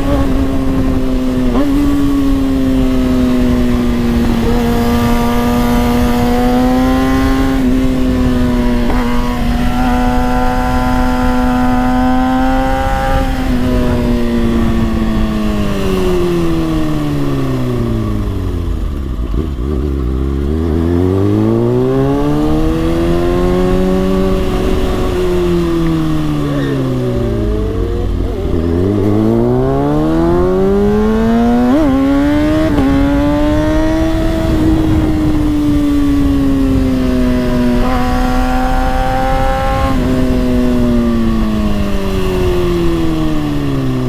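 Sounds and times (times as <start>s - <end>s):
wind noise: 0.0s - 19.8s, 20.5s - 44.0s
motorcycle engine running: 0.0s - 44.0s.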